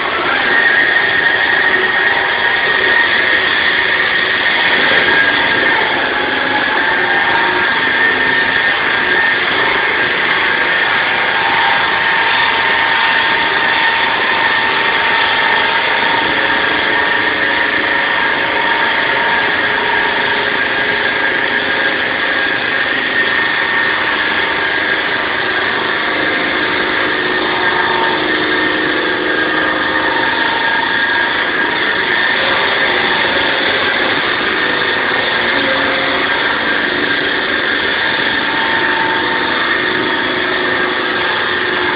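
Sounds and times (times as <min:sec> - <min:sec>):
concrete saw running: 0:00.0 - 0:41.9
high-pitched whine: 0:00.0 - 0:41.9.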